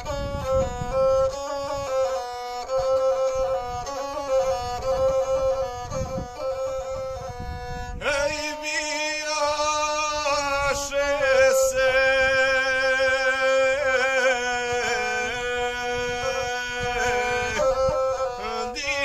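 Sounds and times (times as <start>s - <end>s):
bowed fiddle droning: 0.0s - 19.0s
man singing long wavering notes: 0.0s - 19.0s.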